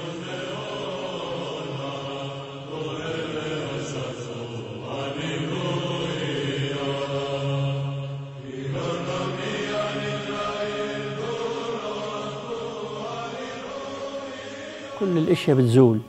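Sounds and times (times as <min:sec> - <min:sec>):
slow vocal chanting: 0:00.0 - 0:16.0.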